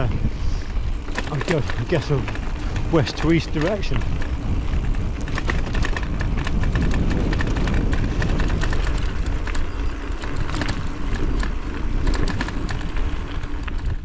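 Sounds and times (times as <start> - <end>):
bike rattling clicks: 0.0 - 14.0
tyres crunching on gravel: 0.0 - 14.0
wind rumbling on microphone: 0.0 - 14.0.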